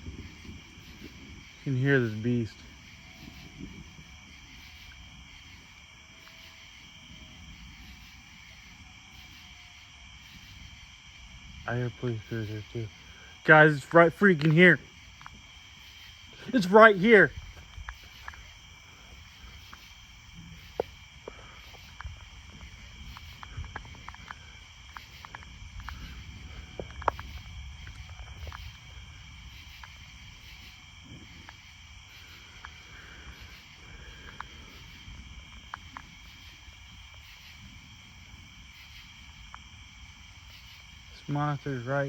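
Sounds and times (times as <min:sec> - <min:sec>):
high insect pulses: 0:00.0 - 0:42.0
night insects chorus: 0:00.0 - 0:42.0.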